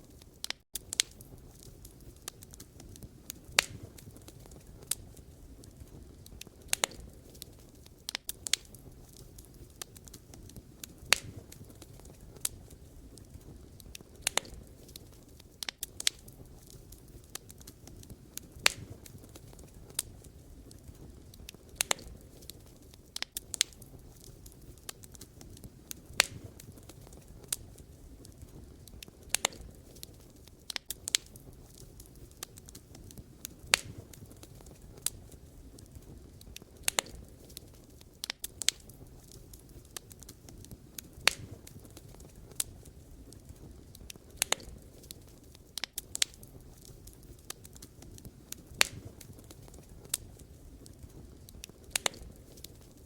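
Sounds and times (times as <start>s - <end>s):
burning logs popping: 0.0s - 53.0s
low rush of flame: 0.0s - 53.0s.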